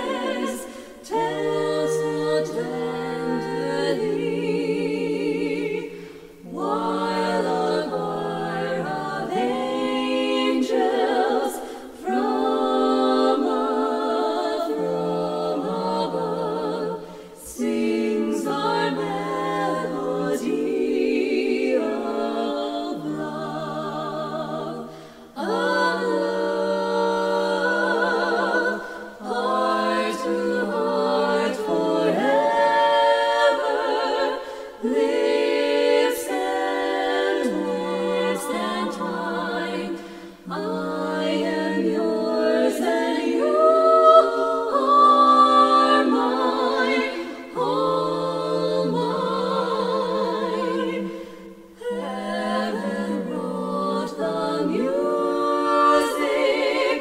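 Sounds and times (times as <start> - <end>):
women singing close harmony: 0.0 - 57.0.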